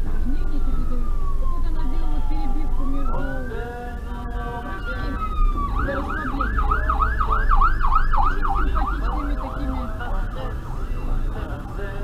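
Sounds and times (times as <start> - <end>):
car engine rumble and road noise: 0.0 - 12.0
siren yelping: 0.1 - 11.5.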